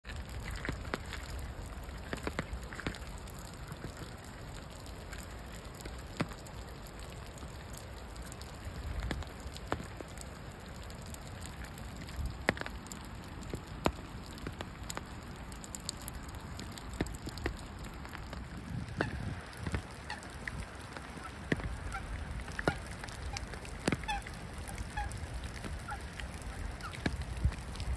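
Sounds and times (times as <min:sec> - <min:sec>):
raindrops ticking: 0:00.0 - 0:27.9.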